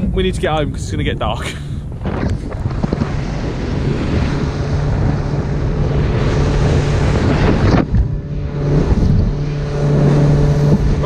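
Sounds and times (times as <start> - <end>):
boat engine humming: 0.0 - 11.0
water noise: 0.0 - 11.0
wind noise on microphone: 0.0 - 11.0.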